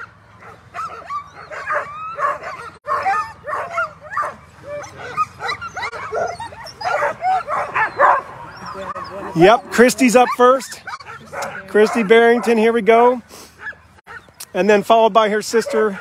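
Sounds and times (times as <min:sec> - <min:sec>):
dogs barking yipping and whining: 0:00.0 - 0:16.0.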